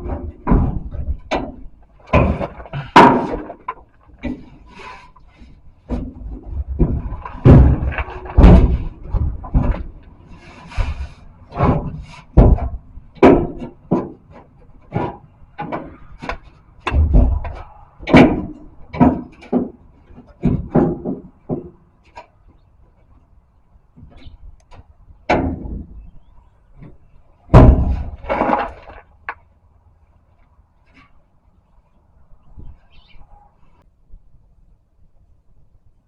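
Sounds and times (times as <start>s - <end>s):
knocks bumps and clunks: 0.0s - 29.5s.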